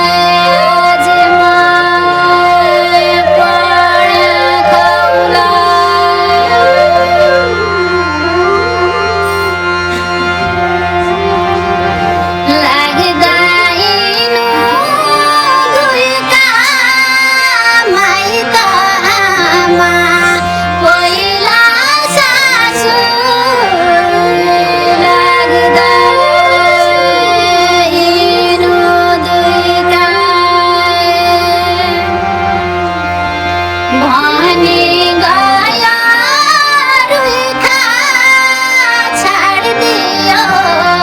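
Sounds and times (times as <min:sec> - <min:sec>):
woman singing folk melody: 0:00.0 - 0:10.0, 0:12.5 - 0:32.0, 0:33.9 - 0:41.0
instrumental accompaniment: 0:00.0 - 0:41.0.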